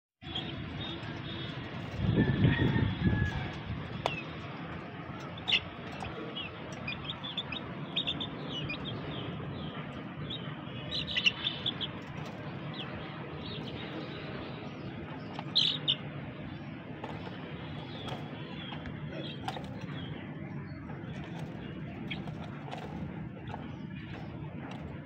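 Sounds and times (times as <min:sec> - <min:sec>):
chicks peeping: 0:00.3 - 0:25.0.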